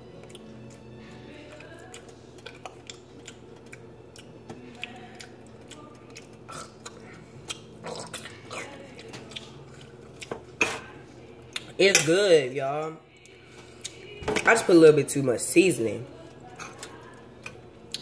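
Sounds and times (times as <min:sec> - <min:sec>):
person chewing food: 0:00.0 - 0:11.8, 0:13.1 - 0:14.5, 0:16.2 - 0:18.0.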